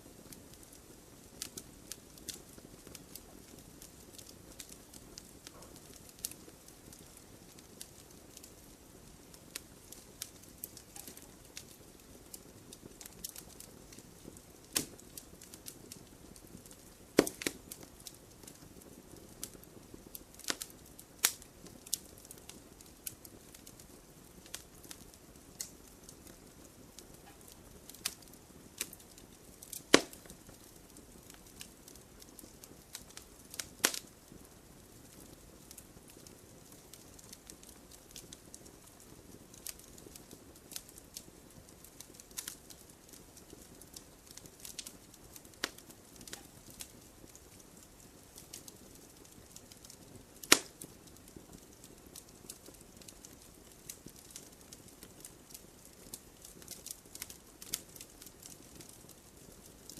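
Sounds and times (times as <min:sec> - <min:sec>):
campfire flame hissing: 0:00.0 - 0:59.9
burning wood popping and cracking: 0:00.1 - 0:59.9.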